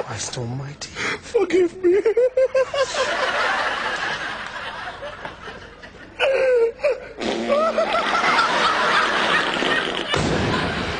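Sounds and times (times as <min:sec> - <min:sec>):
people laughing: 0:01.8 - 0:10.9.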